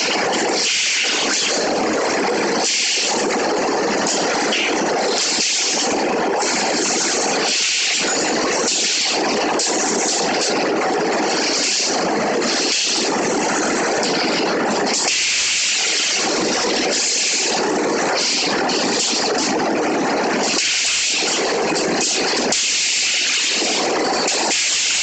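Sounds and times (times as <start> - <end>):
welding machine hissing and crackling: 0.0 - 25.0.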